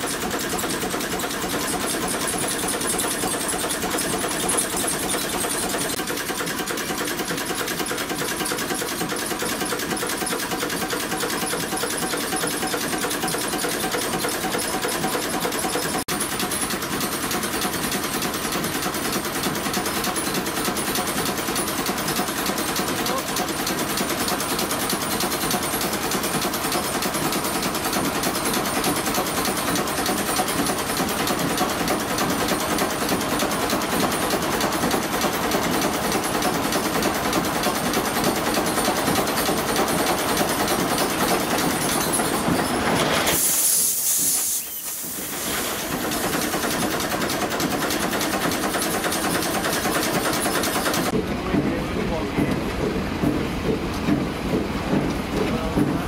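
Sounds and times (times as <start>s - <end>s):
marine engine clatter with hiss: 0.0s - 56.0s.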